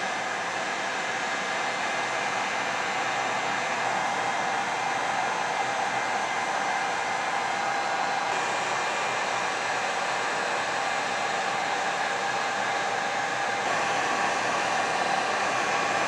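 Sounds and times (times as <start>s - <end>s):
fan whine: 0.0s - 16.0s
heat gun blowing air: 0.0s - 16.0s.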